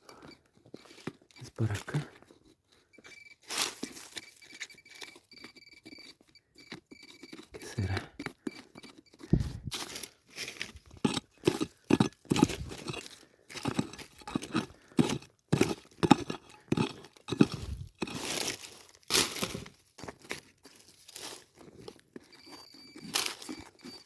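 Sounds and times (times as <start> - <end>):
digging in stony soil: 0.0 - 24.0.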